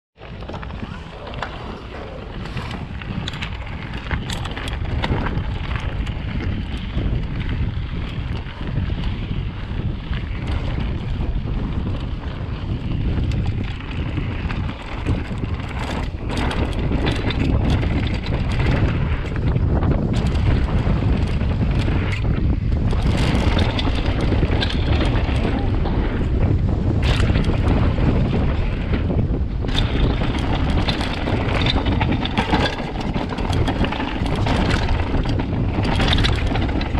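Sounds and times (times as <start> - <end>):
bike knocks and rattles: 0.2 - 36.9
wind buffeting microphone: 0.2 - 36.9.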